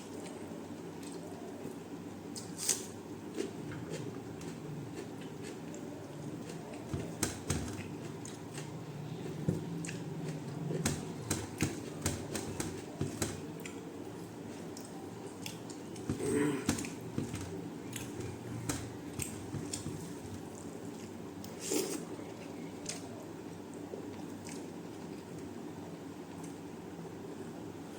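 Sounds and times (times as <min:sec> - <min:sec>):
person chewing food: 0:02.4 - 0:25.5.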